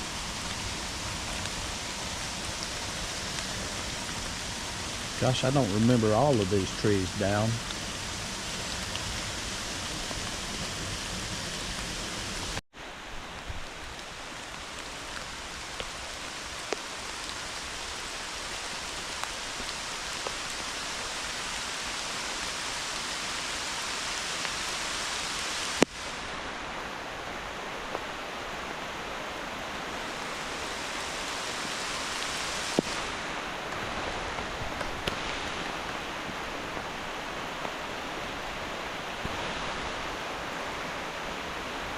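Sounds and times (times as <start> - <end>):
heavy rain hissing: 0.0 - 41.9
rushing floodwater: 0.0 - 41.9.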